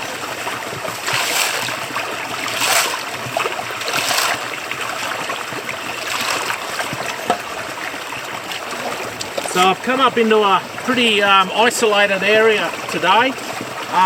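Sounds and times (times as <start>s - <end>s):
creek water running: 0.0s - 14.0s
water splashing: 0.0s - 14.0s.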